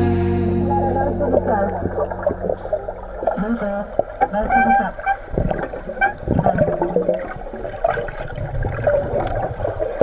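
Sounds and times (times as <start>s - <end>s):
muffled underwater voices: 0.6s - 10.0s
underwater gurgling and bubbling: 0.8s - 10.0s.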